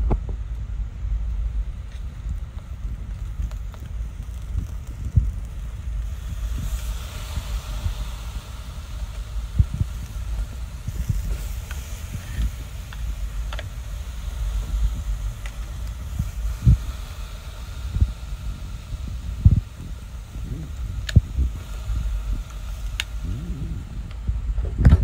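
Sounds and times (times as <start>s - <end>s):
charcoal fire crackling: 0.0s - 25.0s
wind rumble on microphone: 0.0s - 25.0s.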